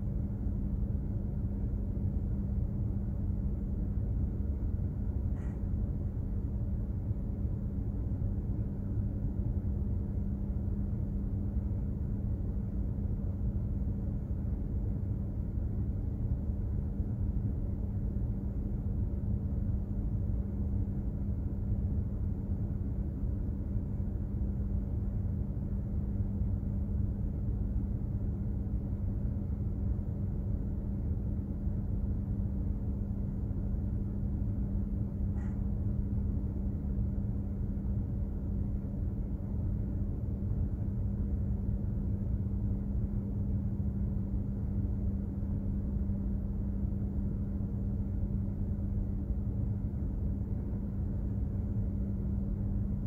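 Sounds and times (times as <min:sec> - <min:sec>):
machinery droning hum: 0:00.0 - 0:53.0.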